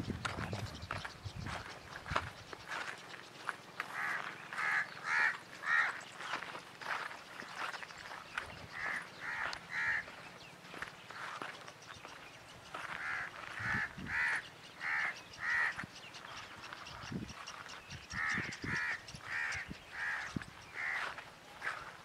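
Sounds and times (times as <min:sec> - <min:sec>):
bird calling loudly: 0:00.0 - 0:21.8.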